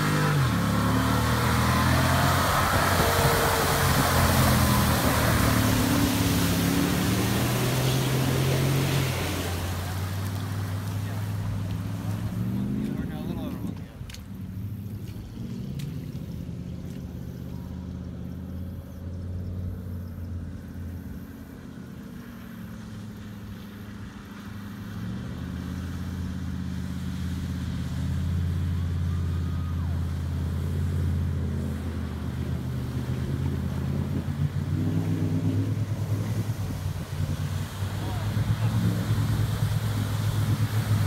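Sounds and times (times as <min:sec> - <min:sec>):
water washing: 0:00.0 - 0:18.5, 0:21.4 - 0:41.0.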